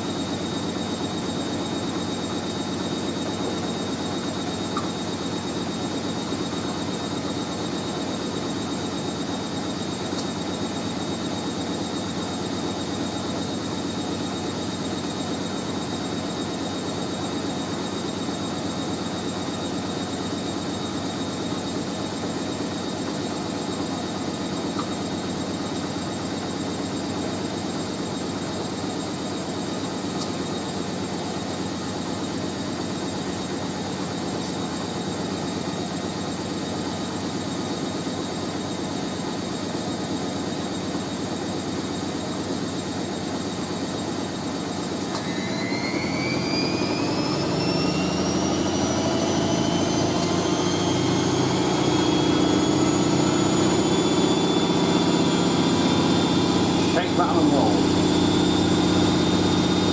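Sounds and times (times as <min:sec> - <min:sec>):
faint high whine: 0:00.0 - 0:59.9
washing machine spinning: 0:00.0 - 0:59.9.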